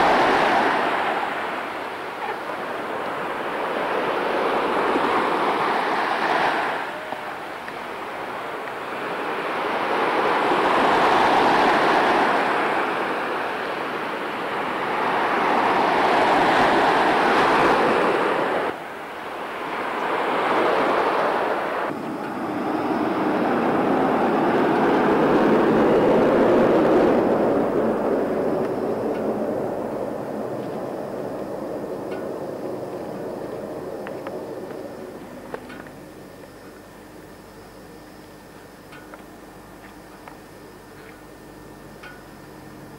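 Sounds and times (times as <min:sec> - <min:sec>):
loud outdoor rushing noise: 0:00.0 - 0:37.2.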